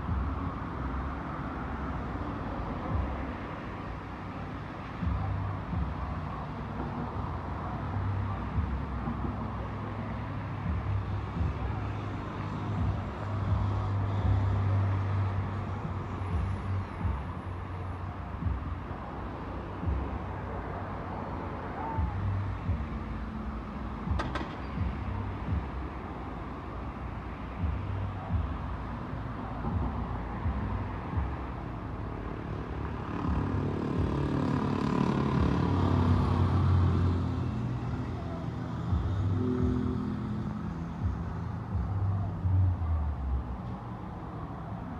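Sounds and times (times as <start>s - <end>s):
diesel engine rumbling: 0.0s - 44.9s
yard noise: 0.0s - 44.9s.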